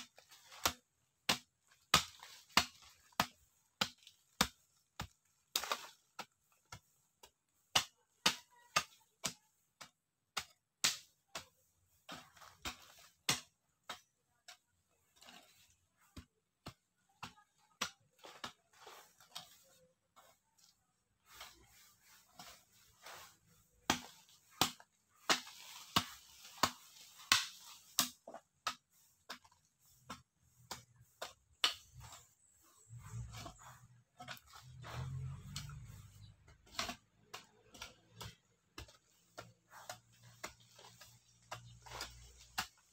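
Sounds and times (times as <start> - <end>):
soil scraping and crumbling: 0.0 - 9.4, 10.4 - 42.9.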